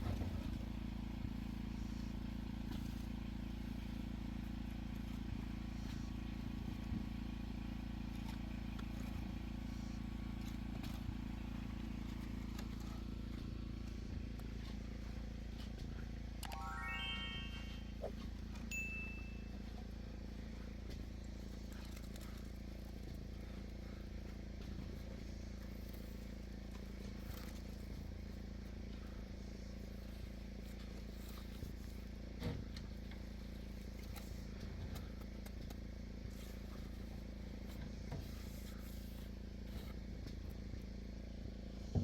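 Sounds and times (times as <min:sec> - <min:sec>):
engine running steadily: 0:00.0 - 0:16.4, 0:18.1 - 0:42.0.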